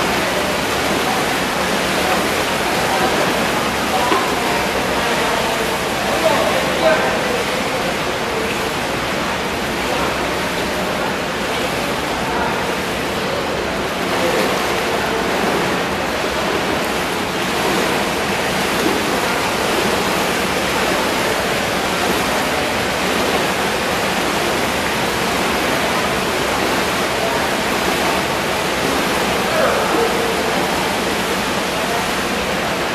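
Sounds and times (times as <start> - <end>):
churning water: 0.0 - 32.9.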